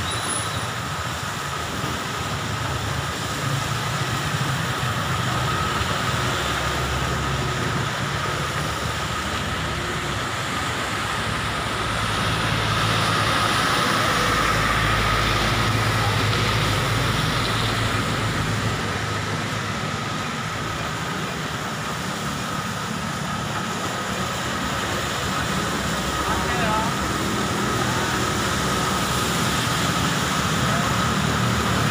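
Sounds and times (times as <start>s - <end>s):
heavy rain: 0.0s - 31.9s.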